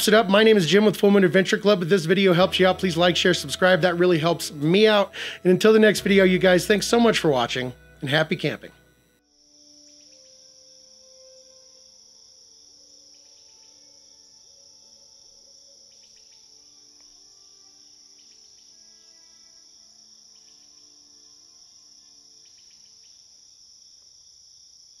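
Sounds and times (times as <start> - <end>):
soft sustained music: 0.0 - 23.4
crickets chirping: 0.0 - 25.0.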